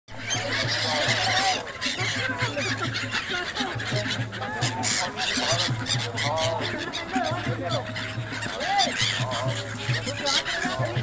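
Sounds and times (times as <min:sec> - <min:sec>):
flock of birds squawking: 0:00.1 - 0:11.0.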